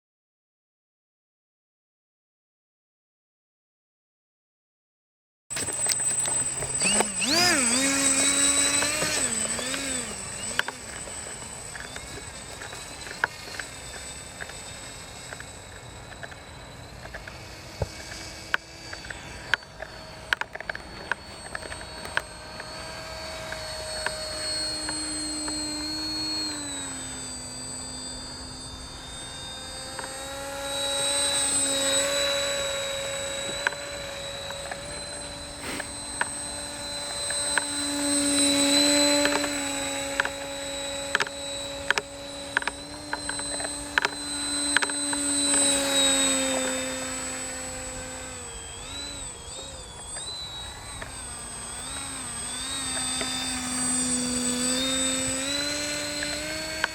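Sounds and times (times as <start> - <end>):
model aircraft motor and propeller: 5.5 - 56.9
sharp clicks: 5.6 - 56.9.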